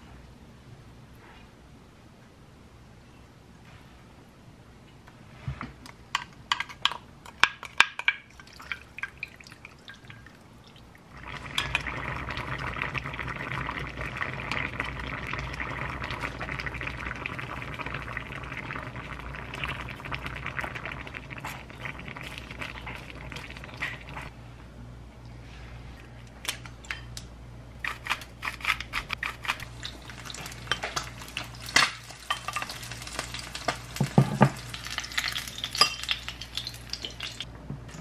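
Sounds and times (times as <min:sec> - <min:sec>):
pan simmering and bubbling: 0:05.2 - 0:24.4, 0:25.3 - 0:38.0.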